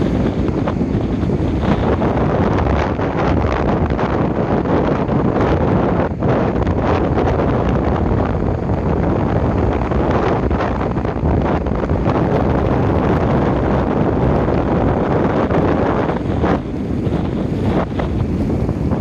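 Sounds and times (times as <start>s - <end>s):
waves washing onto beach: 0.0s - 19.0s
wind buffeting microphone: 0.0s - 19.0s.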